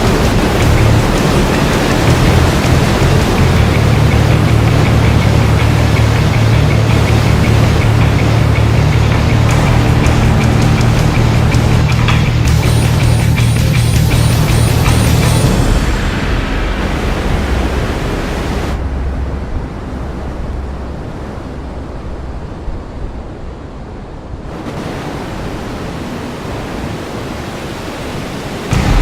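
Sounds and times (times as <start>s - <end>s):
strong wind rushing: 0.0s - 29.0s.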